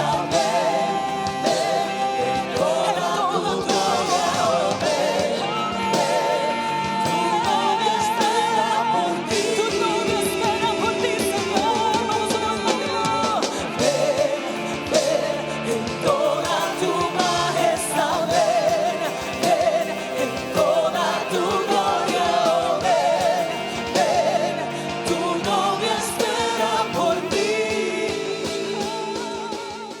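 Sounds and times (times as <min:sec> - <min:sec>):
drums: 0:00.0 - 0:30.0
keyboards: 0:00.0 - 0:30.0
wordless vibrato singing: 0:00.0 - 0:30.0.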